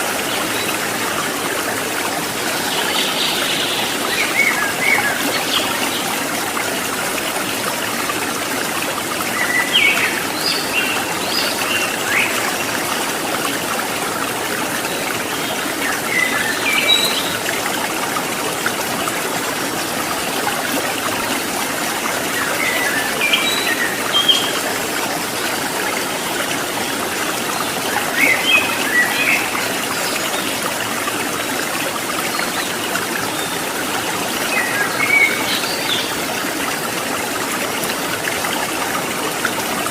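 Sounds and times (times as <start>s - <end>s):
rushing mountain water: 0.0s - 39.9s.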